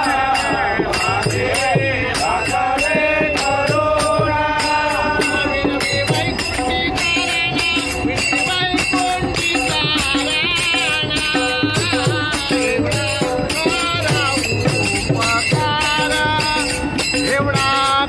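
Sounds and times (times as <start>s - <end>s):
men singing: 0.0s - 18.0s
small brass hand cymbals: 0.0s - 18.0s.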